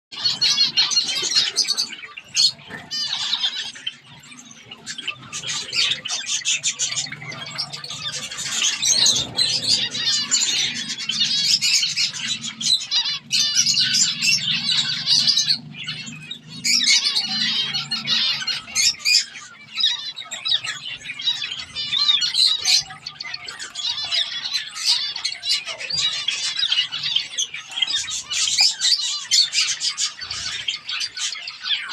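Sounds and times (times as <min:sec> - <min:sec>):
finches chirping and squawking: 0:00.1 - 0:31.9.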